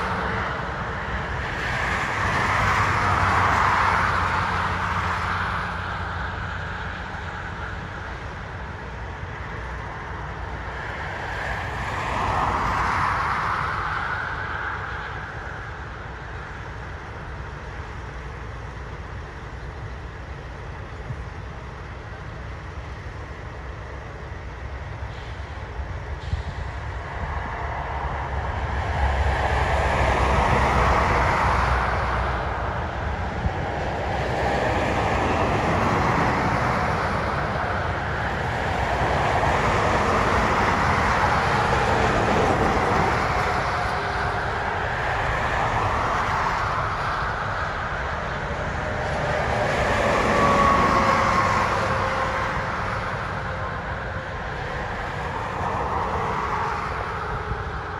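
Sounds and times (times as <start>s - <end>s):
cars and trucks passing: 0.0s - 57.9s
low traffic rumble: 0.0s - 57.9s.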